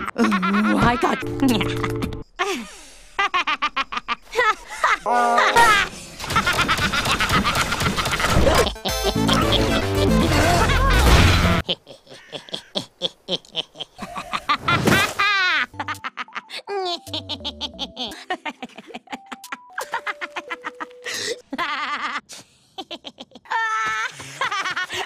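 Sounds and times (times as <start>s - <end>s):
cartoon character laughter: 3.2s - 25.0s.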